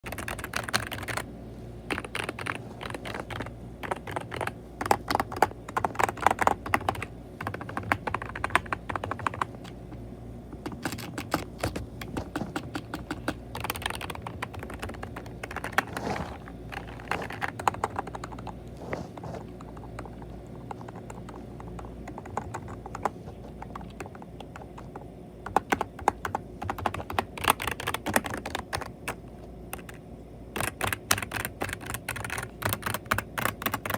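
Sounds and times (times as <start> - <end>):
typing on a keyboard: 0.0 - 1.3, 1.9 - 9.8, 10.6 - 15.9, 16.7 - 18.6, 19.4 - 33.9.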